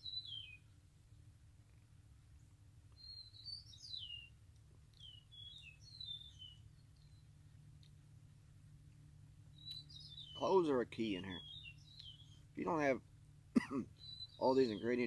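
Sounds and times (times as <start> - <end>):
faint low hum: 0.0 - 15.0
songbird chirping: 0.0 - 15.0.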